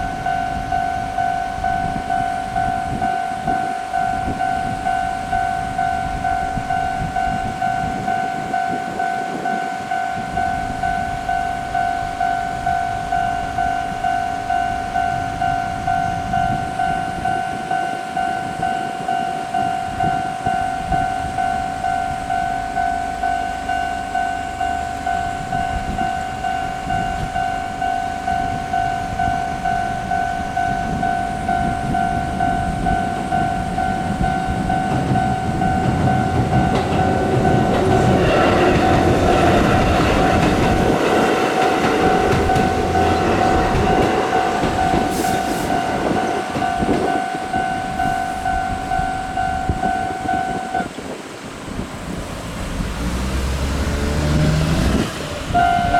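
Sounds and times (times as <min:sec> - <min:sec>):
level crossing alarm dinging: 0:00.0 - 0:51.2, 0:55.5 - 0:55.9
electric train running: 0:00.0 - 0:55.9.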